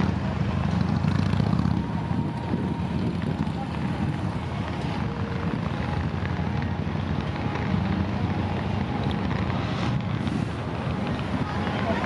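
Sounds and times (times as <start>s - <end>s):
low outdoor rumble: 0.0s - 12.0s
wind buffeting microphone: 0.0s - 12.0s.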